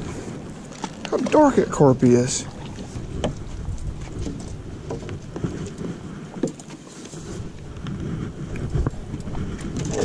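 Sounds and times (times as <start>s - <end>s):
wind on microphone: 0.0s - 0.7s, 2.4s - 10.0s.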